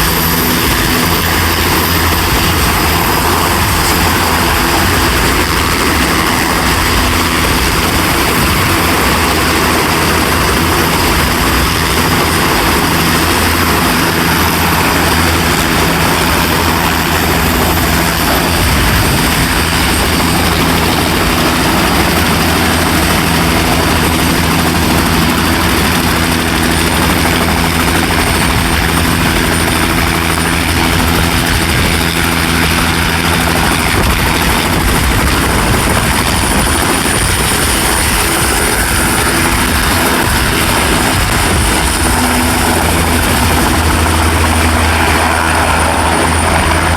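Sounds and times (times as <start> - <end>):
helicopter rotor beat: 0.0 - 46.9
high turbine whine: 0.0 - 46.9.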